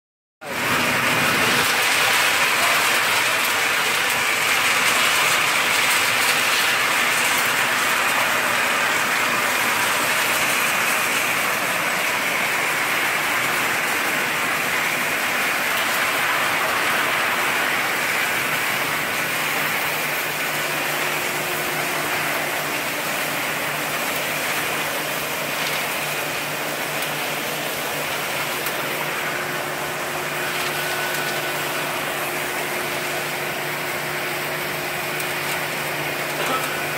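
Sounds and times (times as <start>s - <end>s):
machinery rushing noise: 0.5s - 35.2s.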